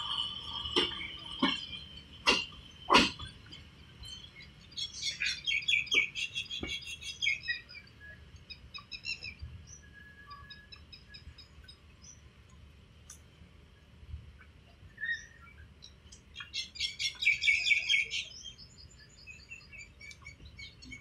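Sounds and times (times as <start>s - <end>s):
small birds chirping: 0.0s - 13.2s, 13.8s - 21.0s.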